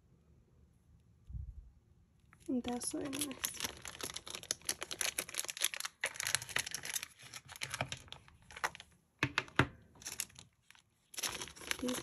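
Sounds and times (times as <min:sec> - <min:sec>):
plastic packaging crinkling: 0:02.3 - 0:12.0.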